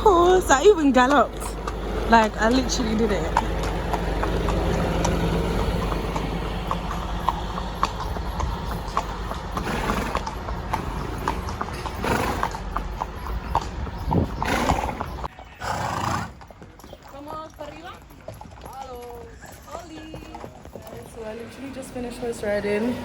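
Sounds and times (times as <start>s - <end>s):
horses' hooves clip-clopping: 0.0s - 23.0s.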